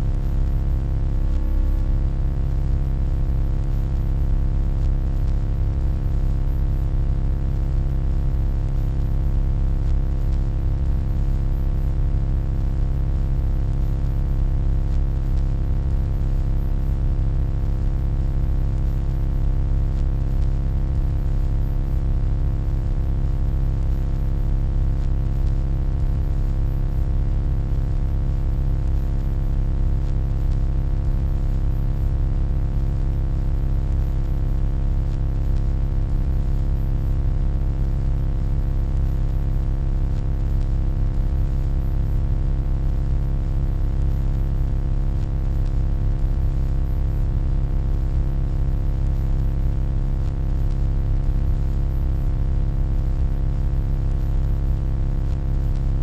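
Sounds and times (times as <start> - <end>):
electronic hum: 0.0 - 38.0, 39.8 - 45.8, 46.4 - 48.2, 49.1 - 49.3, 50.2 - 50.8.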